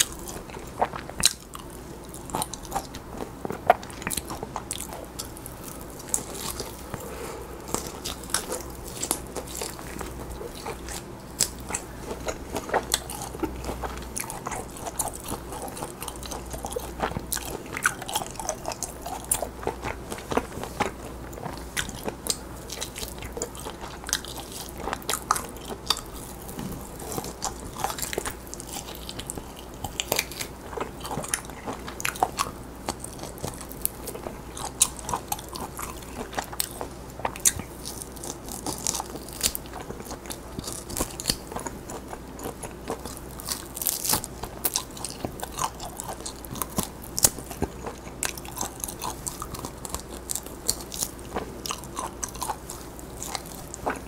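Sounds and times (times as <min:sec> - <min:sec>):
chewing and biting meat: 0:00.0 - 0:54.0.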